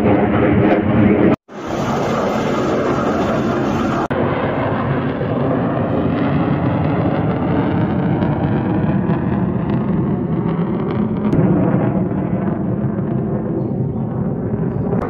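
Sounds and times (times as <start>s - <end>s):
jet aircraft passing overhead: 0.0s - 15.0s.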